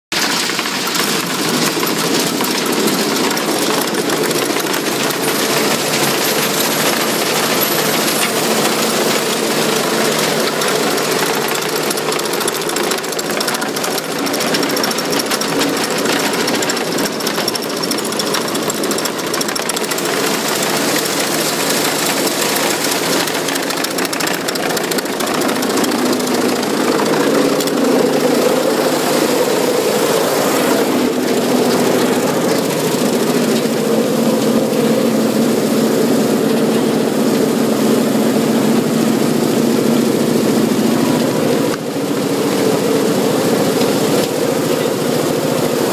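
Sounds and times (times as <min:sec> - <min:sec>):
cone crusher clattering and droning: 0:00.1 - 0:45.9.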